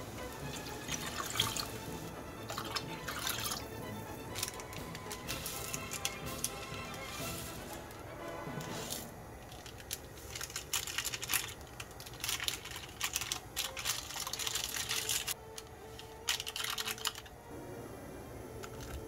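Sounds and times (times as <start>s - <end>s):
cooking preparation clicks and taps: 0.2s - 17.4s.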